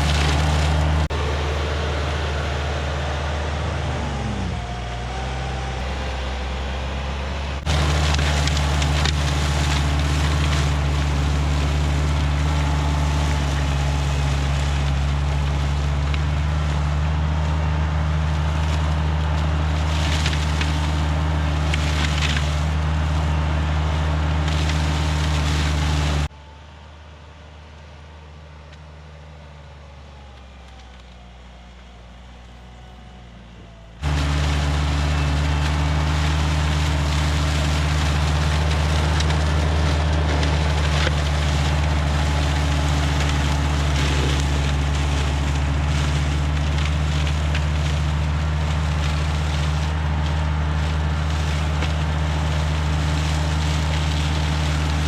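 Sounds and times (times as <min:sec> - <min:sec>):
engine humming steadily: 0:00.0 - 0:55.0.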